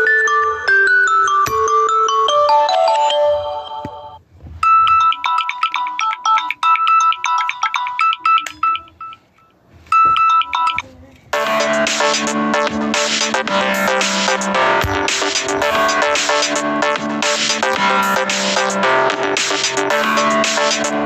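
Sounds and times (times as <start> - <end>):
high electronic beeping ringtone: 0.0 - 21.0
marimba-like ringtone melody: 0.0 - 21.0.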